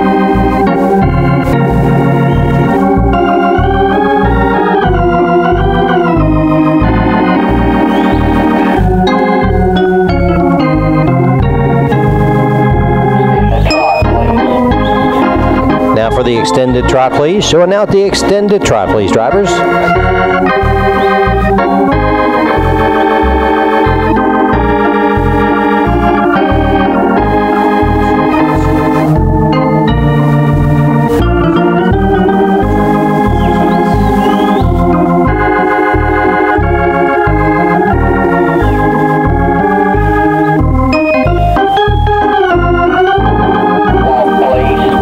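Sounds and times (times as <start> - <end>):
bass beat: 0.0 - 45.0
organ chords: 0.0 - 45.0.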